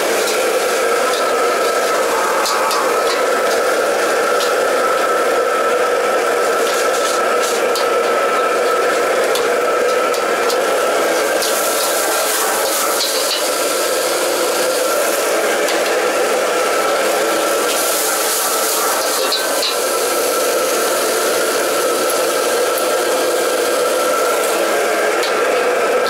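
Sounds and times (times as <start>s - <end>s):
food sizzling in wok: 0.0s - 26.0s
wok burner and extraction roar: 0.0s - 26.0s.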